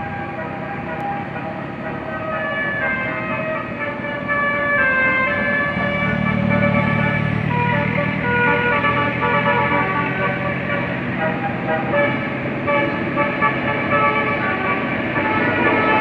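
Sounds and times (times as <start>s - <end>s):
musical bus horn tune: 0.0s - 16.0s.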